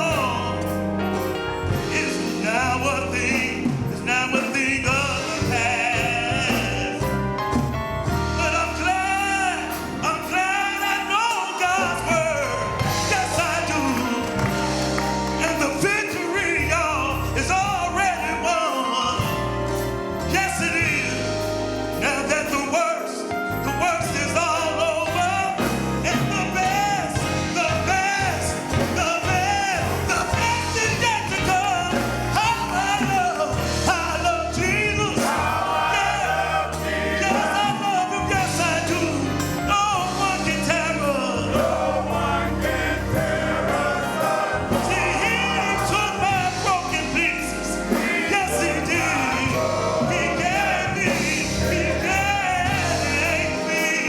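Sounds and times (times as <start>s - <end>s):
gospel singing: 0.0s - 54.0s
instrumental accompaniment with bass: 0.0s - 54.0s.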